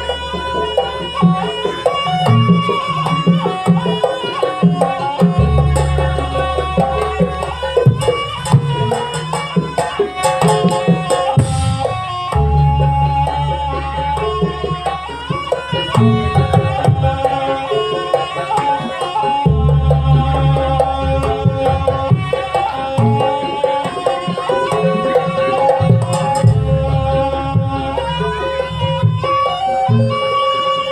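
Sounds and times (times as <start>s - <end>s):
hand drums playing rhythms: 0.0s - 30.9s
held melodic line: 0.0s - 30.9s.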